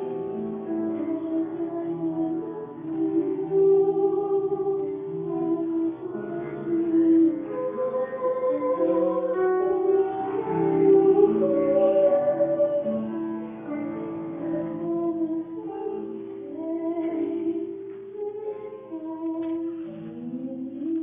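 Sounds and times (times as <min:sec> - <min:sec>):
instrumental accompaniment: 0:00.0 - 0:21.0.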